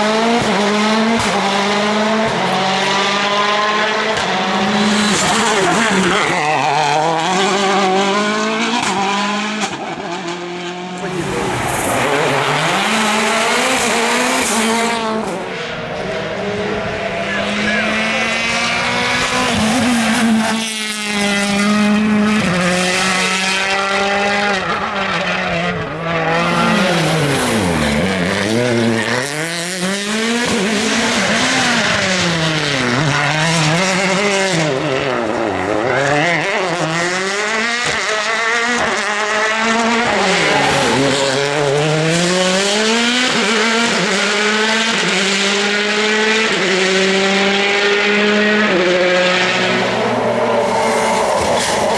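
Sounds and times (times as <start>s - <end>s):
rally car engine revving: 0.0s - 51.9s.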